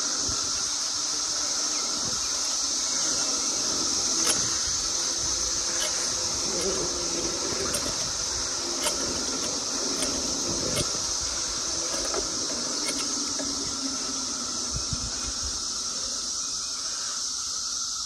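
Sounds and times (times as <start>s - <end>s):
cicadas buzzing chorus: 0.0s - 18.0s.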